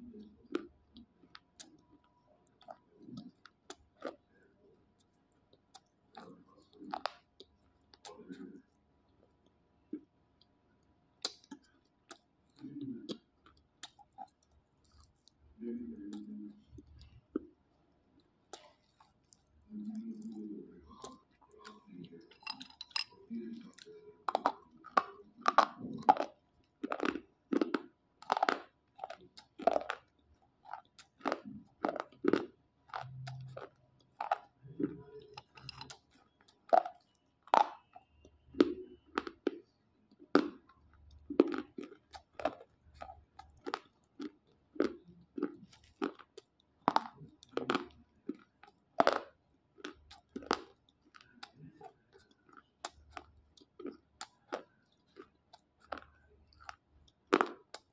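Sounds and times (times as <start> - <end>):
crisp crunches of chewing: 0.0 - 8.8, 11.2 - 17.5, 18.5 - 57.9.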